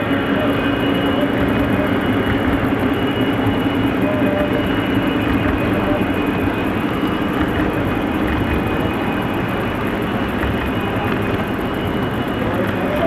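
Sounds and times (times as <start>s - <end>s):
low hum: 0.0s - 13.0s
metal wheels rumbling on rails: 0.0s - 13.0s.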